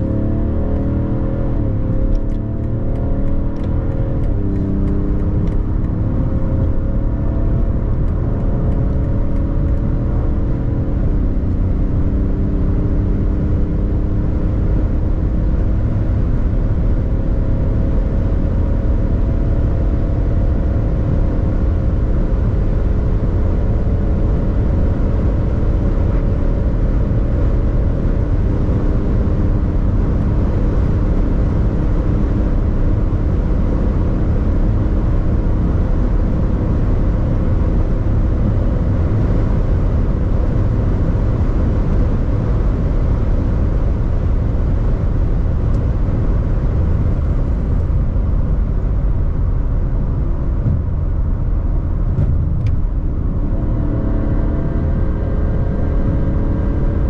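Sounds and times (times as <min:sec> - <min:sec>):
diesel engine running at high speed: 0:00.0 - 0:57.0.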